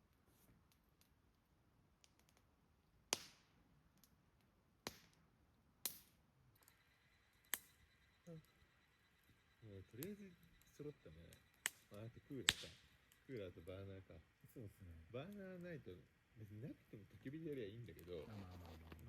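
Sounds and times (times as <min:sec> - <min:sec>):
burning firewood popping: 0:00.0 - 0:19.0.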